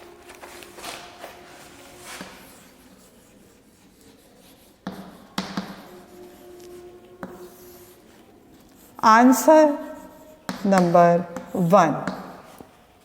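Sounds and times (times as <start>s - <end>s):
writing scratching on a board: 0.3s - 13.0s.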